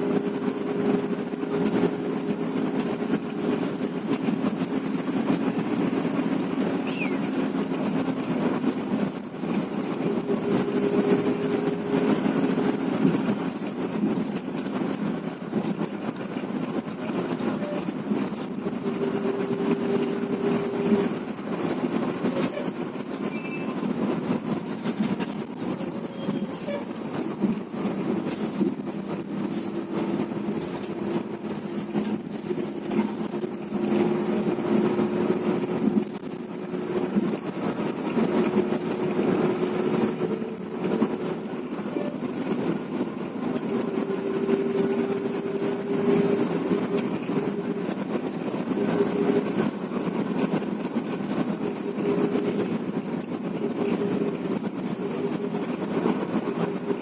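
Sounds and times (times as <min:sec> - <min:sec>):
bus engine running: 0:00.0 - 0:57.0
road noise: 0:00.0 - 0:57.0.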